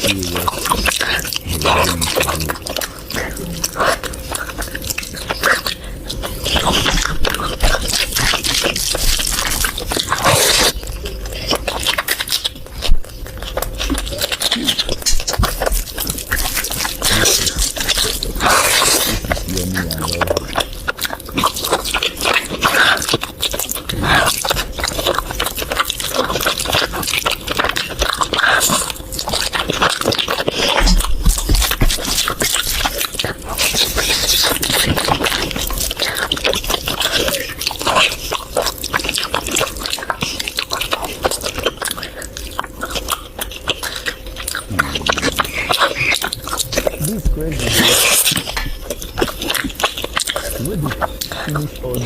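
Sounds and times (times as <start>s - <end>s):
wet chewing and lip-smacking: 0.0s - 52.0s.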